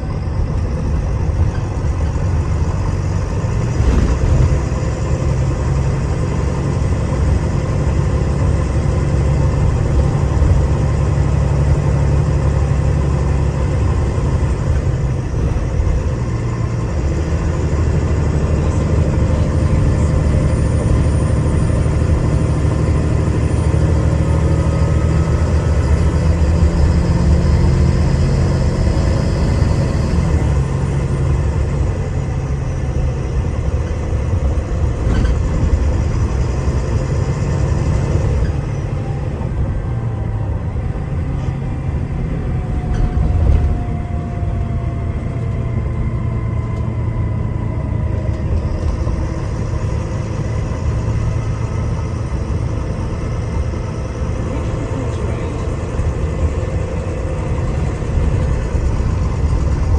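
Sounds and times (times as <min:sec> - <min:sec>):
bus diesel engine rumbling: 0:00.0 - 0:59.9.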